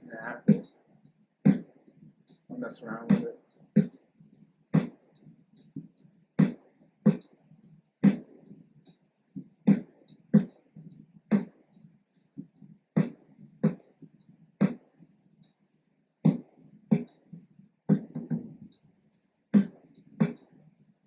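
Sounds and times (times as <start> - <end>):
hip-hop drum loop: 0.0 - 4.1, 4.8 - 15.6, 16.2 - 20.6.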